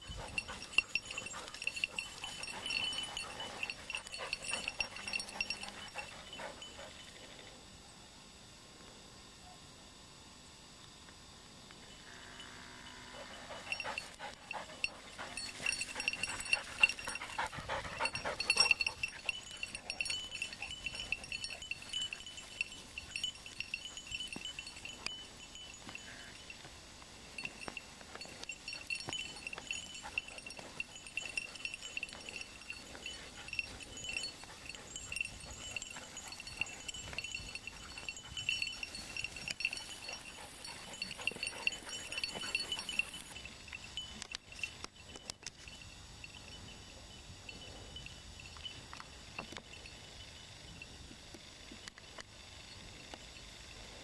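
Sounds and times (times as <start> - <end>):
dog collar bell jingling: 0.0 - 7.4, 12.3 - 50.9.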